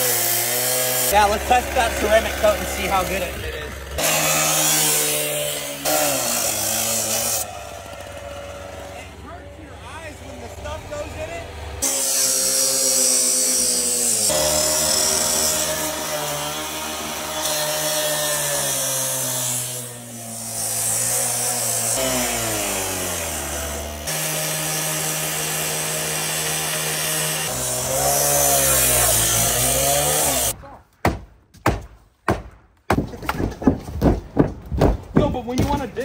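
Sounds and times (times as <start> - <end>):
cut-off saw cutting sheet metal: 0.0 - 9.3, 10.2 - 30.6.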